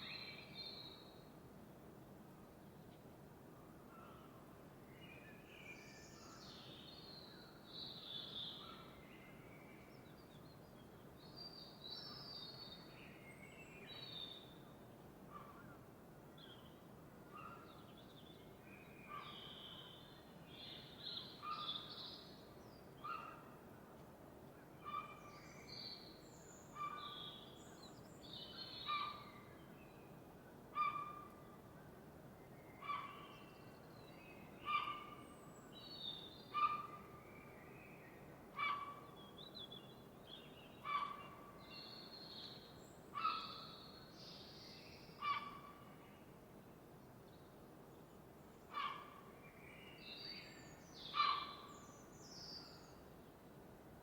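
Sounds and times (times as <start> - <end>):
faint steady background hiss: 0.0 - 54.0.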